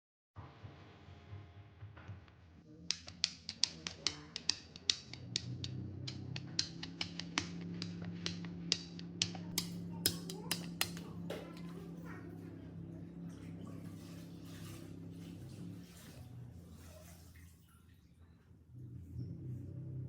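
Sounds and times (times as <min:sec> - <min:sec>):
low steady hum: 0:02.7 - 0:20.0.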